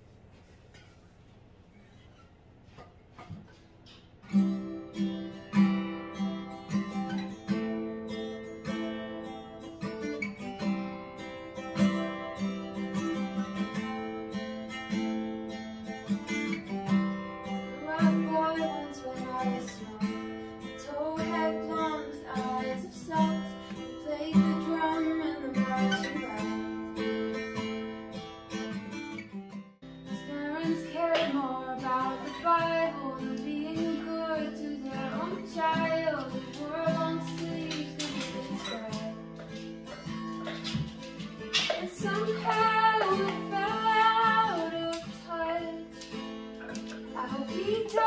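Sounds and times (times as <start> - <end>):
guitar picked melody and strumming: 1.8 - 48.0.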